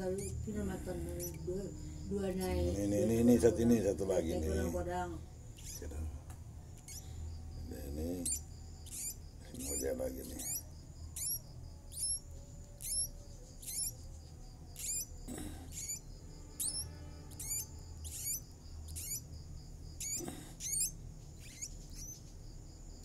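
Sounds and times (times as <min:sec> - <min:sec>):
nestling birds squeaking chirps: 0:00.0 - 0:23.0.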